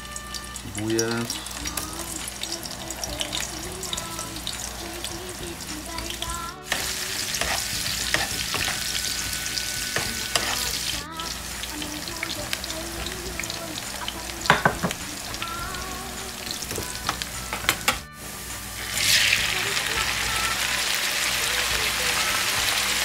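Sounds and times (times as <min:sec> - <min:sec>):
onion sizzling in hot oil: 0:00.0 - 0:23.0.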